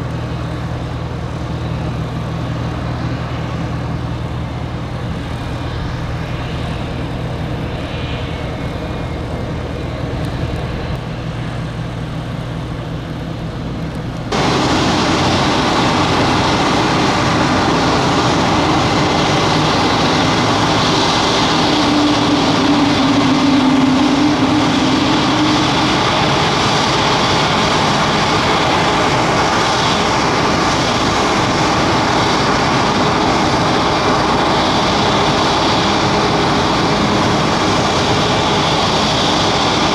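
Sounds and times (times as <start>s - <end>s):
propeller aircraft engines running: 0.0s - 39.9s.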